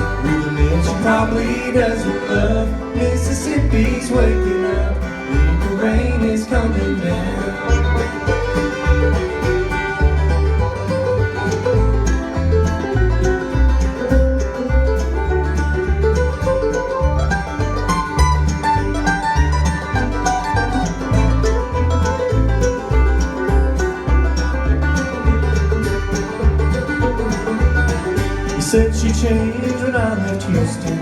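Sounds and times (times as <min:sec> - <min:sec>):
banjo rolls: 0:00.0 - 0:31.0
fiddle melody: 0:00.0 - 0:31.0
guitar: 0:00.0 - 0:31.0
upright bass: 0:00.0 - 0:31.0.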